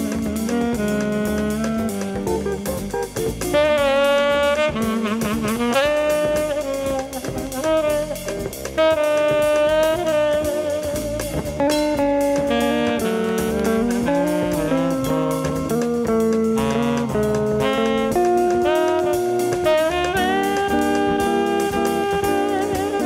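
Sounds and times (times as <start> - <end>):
bass and drums: 0.0 - 23.0
jazz saxophone melody: 0.0 - 23.0.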